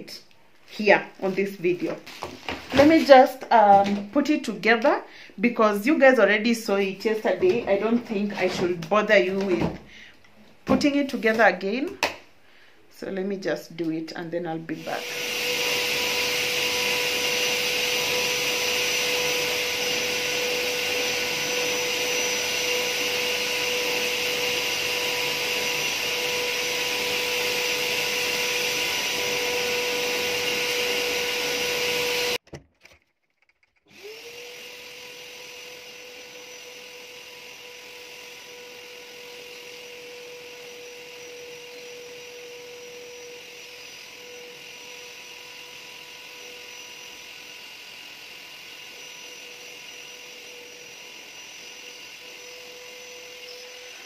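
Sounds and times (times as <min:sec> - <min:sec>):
vacuum cleaner running: 0:00.7 - 0:04.9, 0:05.5 - 0:10.1, 0:14.5 - 0:32.4, 0:33.9 - 0:54.0.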